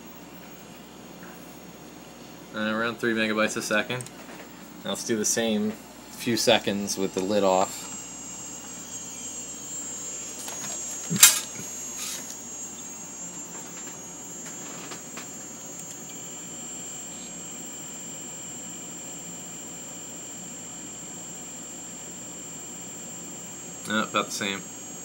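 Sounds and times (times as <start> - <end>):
hard disk drive whine: 0.0 - 25.0.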